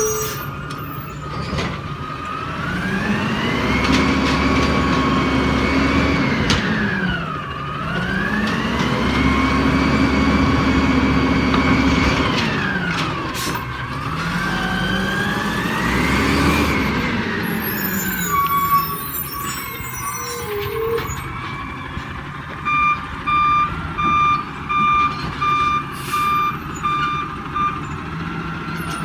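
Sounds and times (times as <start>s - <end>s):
garbage truck diesel engine revving: 0.0s - 21.5s, 22.1s - 29.0s.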